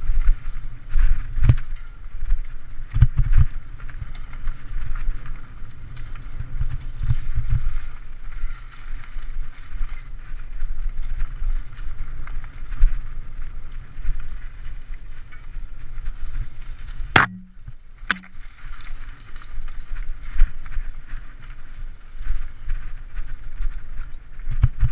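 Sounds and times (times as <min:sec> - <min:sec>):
bike tyres rumbling and rattling: 0:00.0 - 0:24.9
wind on microphone: 0:00.0 - 0:24.9.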